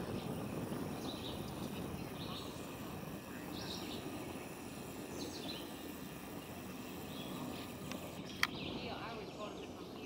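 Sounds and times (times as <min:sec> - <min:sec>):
low outdoor background noise: 0:00.0 - 0:10.0
small birds chirping: 0:00.0 - 0:10.0.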